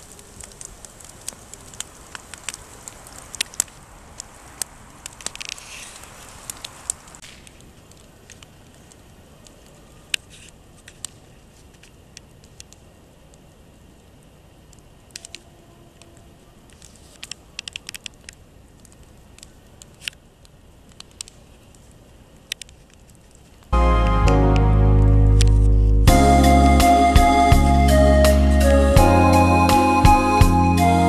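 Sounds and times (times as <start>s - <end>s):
fire pops and snaps: 0.0s - 25.9s
campfire crackling: 0.0s - 31.0s
low steady hiss: 0.0s - 31.0s.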